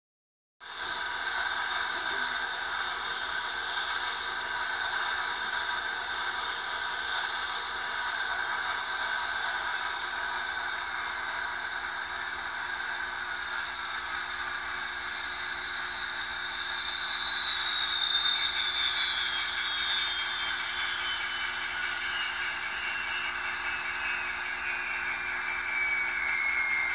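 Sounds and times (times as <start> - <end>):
turbine whine winding down: 0.6 - 26.9.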